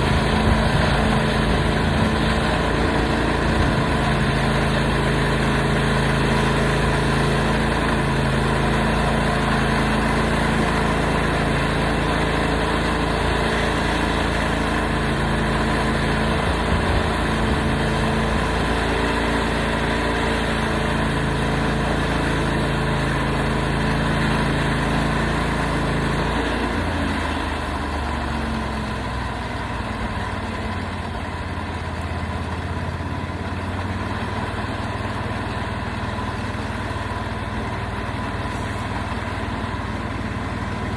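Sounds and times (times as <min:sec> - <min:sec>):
sawmill gas engine running: 0:00.0 - 0:40.9.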